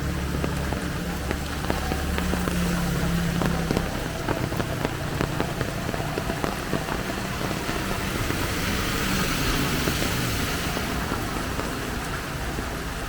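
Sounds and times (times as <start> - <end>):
heavy rain falling: 0.0 - 13.0
low vehicle engine: 0.0 - 13.0
vehicle passing on wet road: 0.0 - 13.0.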